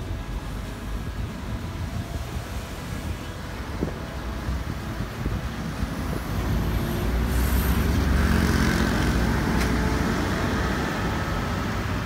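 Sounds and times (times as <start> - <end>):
cars rumbling by: 0.0 - 12.0.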